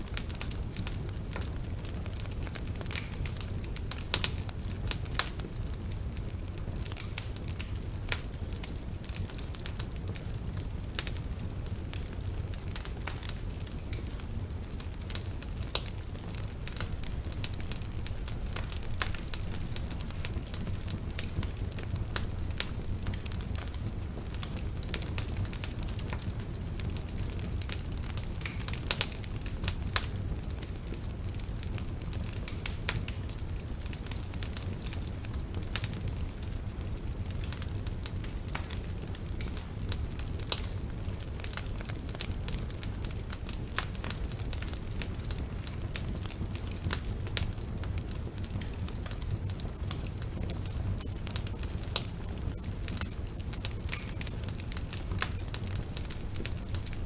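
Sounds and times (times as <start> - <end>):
fire crackling and popping: 0.0 - 57.0
fire flames rumbling: 0.0 - 57.0.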